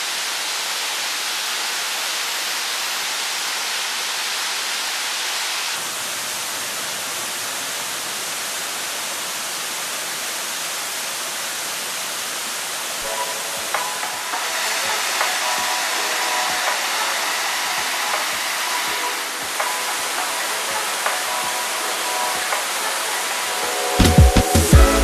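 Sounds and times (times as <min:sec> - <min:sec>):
stream and waterfall rushing over rocks: 0:00.0 - 0:25.0.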